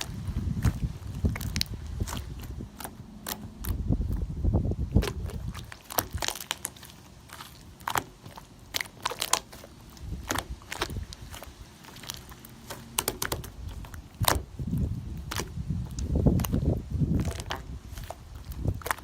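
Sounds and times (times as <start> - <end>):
slime crackling and popping: 0.0 - 4.2, 4.9 - 19.0.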